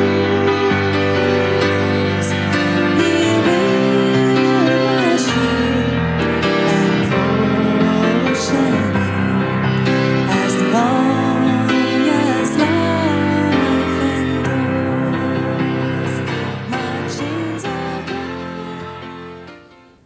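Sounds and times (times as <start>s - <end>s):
person singing a hymn: 0.0s - 19.8s
piano accompaniment: 0.0s - 20.0s.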